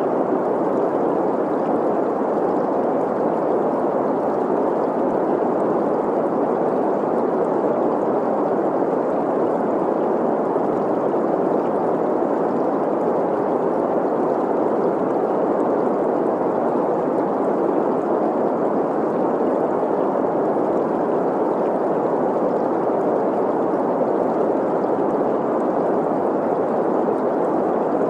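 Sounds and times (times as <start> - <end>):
stream running water: 0.0 - 28.0.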